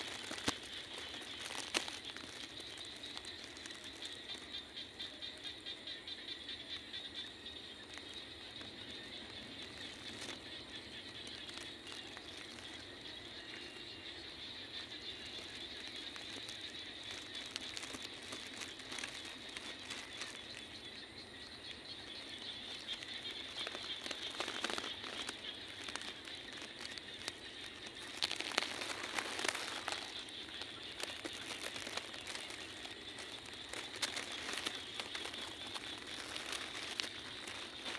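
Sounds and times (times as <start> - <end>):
close crackling and crinkling: 0.0 - 5.9, 6.5 - 37.9
night insects trilling: 0.0 - 37.9.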